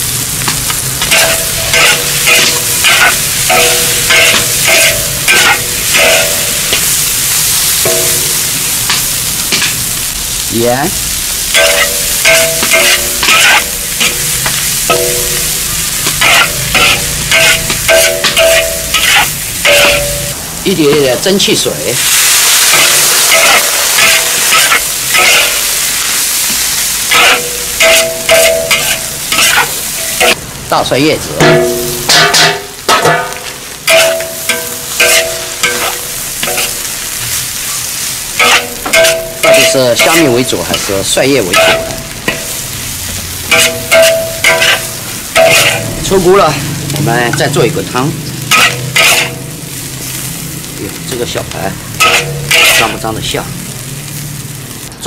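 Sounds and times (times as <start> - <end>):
food sizzling: 0.0 - 55.0
wok ringing: 0.0 - 55.0
metal spatula scraping a wok: 0.3 - 10.1, 10.9 - 30.4, 31.4 - 53.4.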